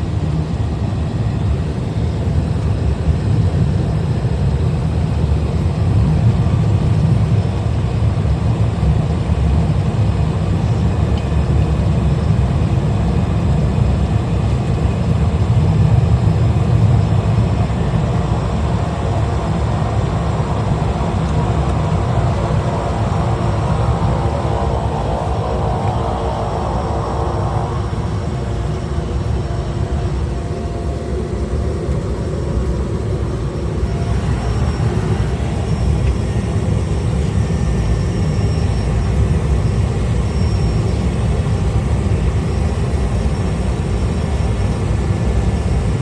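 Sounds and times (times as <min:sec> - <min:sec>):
light aircraft engine droning: 0:00.0 - 0:46.0.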